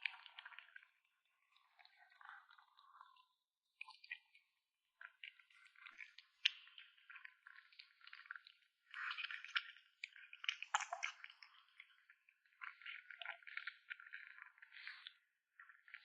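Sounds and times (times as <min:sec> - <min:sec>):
kitten chewing wetly: 0:00.0 - 0:16.0.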